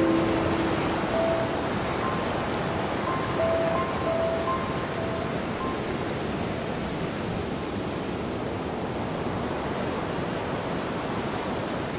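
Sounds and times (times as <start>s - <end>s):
ocean surf rushing: 0.0s - 11.9s.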